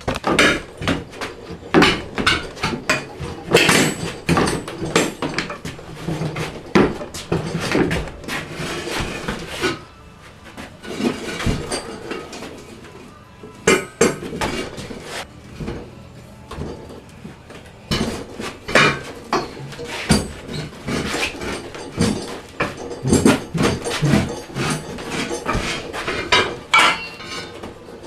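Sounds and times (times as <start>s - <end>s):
metal clanking and scraping: 0.0s - 28.0s.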